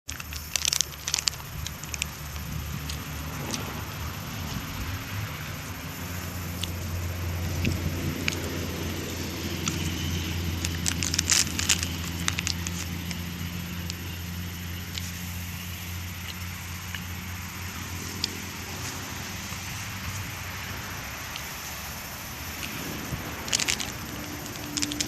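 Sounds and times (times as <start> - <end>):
clicks and crackles: 0.1 - 4.7, 5.4 - 19.8, 21.2 - 25.0.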